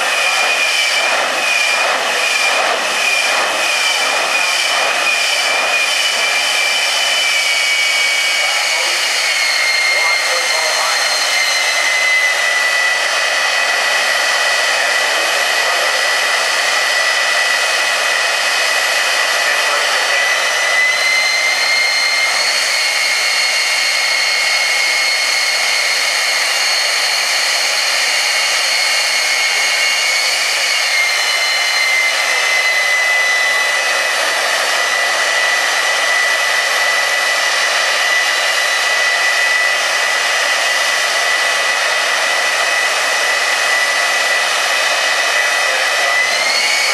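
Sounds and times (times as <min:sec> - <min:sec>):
jet turbine engine whining: 0:00.0 - 0:46.9.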